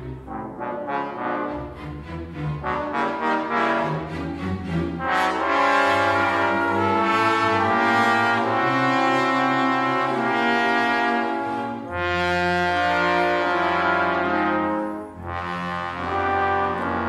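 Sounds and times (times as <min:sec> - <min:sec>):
orchestra strings: 0:00.0 - 0:17.0
trombones playing held chords: 0:00.0 - 0:17.0.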